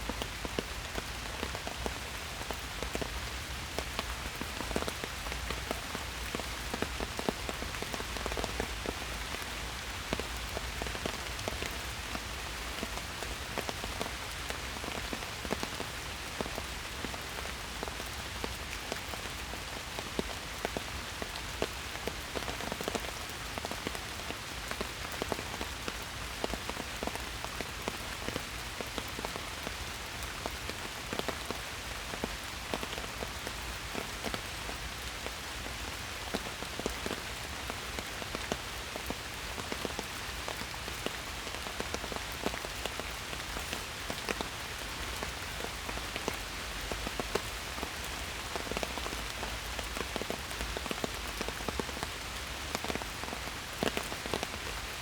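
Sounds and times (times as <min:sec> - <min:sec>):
rain pattering on leaves: 0:00.0 - 0:55.0.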